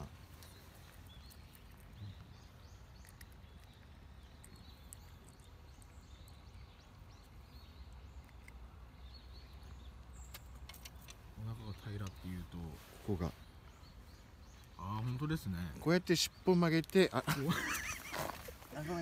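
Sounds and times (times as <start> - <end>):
faint bird chirps: 0.0 - 16.6.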